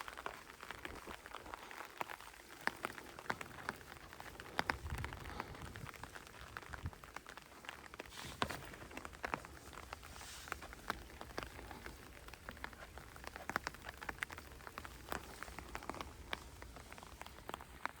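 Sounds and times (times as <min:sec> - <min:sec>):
raindrops ticking on a surface: 0:00.0 - 0:18.0.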